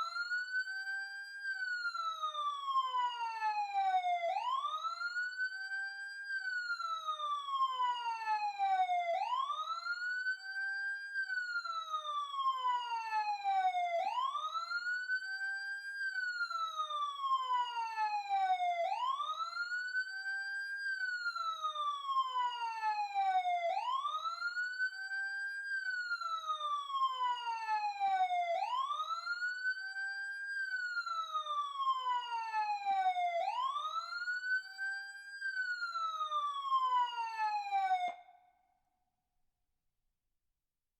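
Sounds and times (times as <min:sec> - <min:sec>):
emergency siren wailing: 0:00.0 - 0:38.4.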